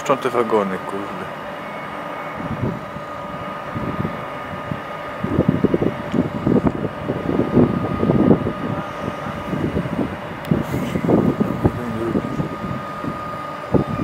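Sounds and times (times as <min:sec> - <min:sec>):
train electric hum: 0:00.0 - 0:14.0.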